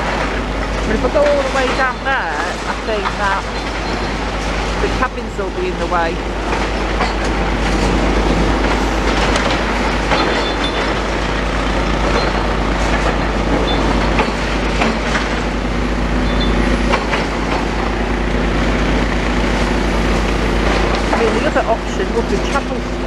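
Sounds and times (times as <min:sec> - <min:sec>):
distant excavators running: 0:00.0 - 0:23.0.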